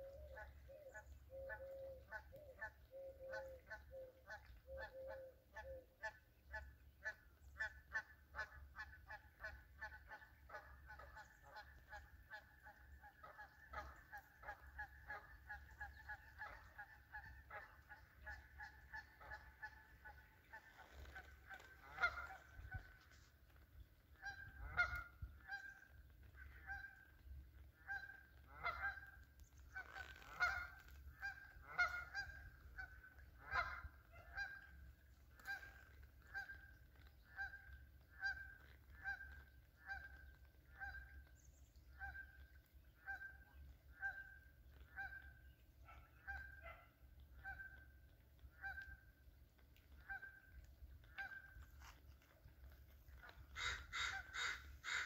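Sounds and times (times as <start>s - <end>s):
birds calling: 0.0s - 7.9s, 9.4s - 55.0s.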